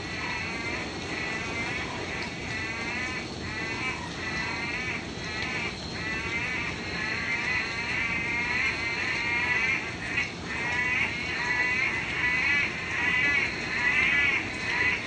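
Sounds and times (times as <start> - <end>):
frogs trilling: 0.0 - 15.0.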